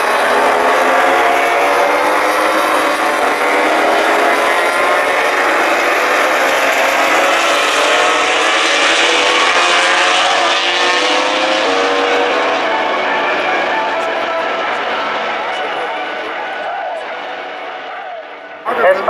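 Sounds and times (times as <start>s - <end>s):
racing motorcycles at high revs: 0.0s - 16.0s.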